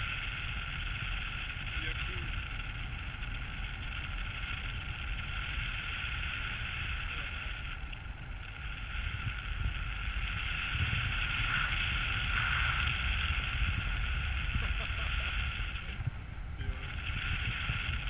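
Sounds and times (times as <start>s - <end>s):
airflow rushing over microphone: 0.0s - 18.0s.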